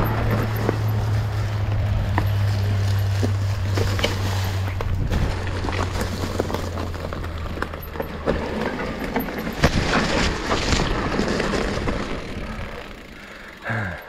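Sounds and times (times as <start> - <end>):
tyre noise on dirt: 0.0 - 13.6
bike knocks and rattles: 0.0 - 13.7.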